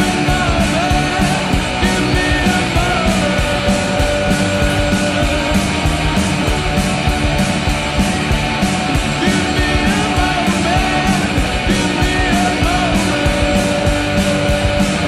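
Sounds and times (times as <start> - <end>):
rock music with electric guitar: 0.0 - 15.0
steady drum beat: 0.0 - 15.0.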